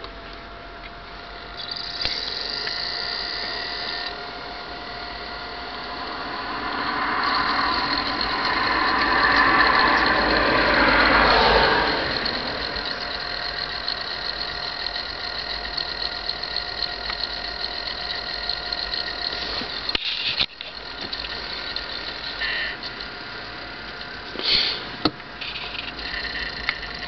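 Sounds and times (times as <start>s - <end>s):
faint high whining: 0.0s - 27.0s
mechanical running noise: 0.0s - 27.0s.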